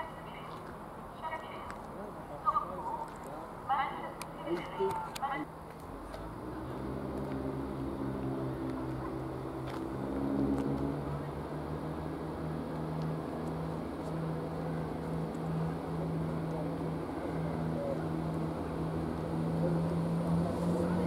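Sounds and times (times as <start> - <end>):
train engine humming: 0.0 - 21.0.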